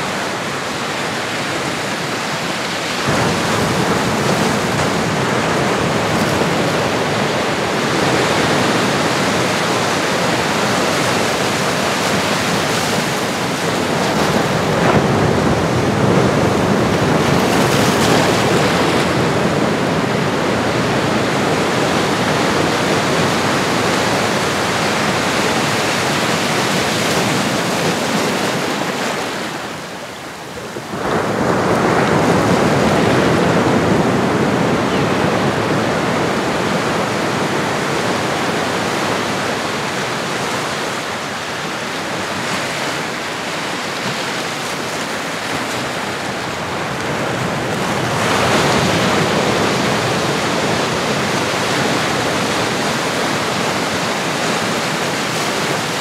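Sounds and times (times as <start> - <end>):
ocean waves rushing: 0.0 - 56.0.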